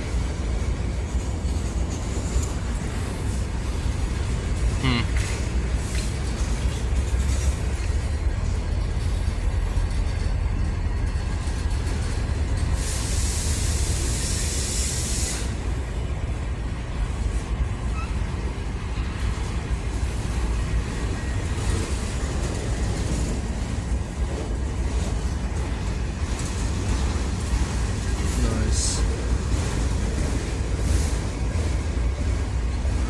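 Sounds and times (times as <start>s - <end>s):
freight train rolling on rails: 0.0s - 33.0s.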